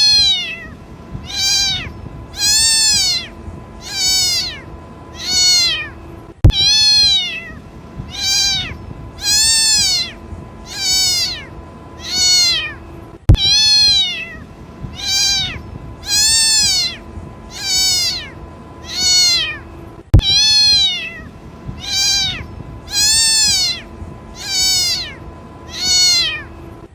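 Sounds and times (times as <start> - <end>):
kitten meowing: 0.0 - 19.6, 20.2 - 26.5.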